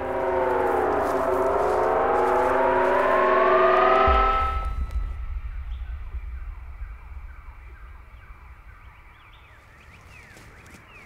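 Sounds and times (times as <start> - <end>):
siren-like drone: 0.0 - 9.8
deep low rumble: 0.0 - 10.4
bird chirps: 1.3 - 11.0.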